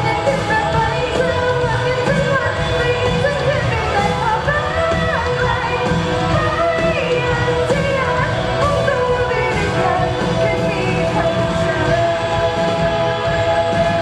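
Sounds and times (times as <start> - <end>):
loud backing music: 0.0 - 14.0
person singing: 0.0 - 14.0.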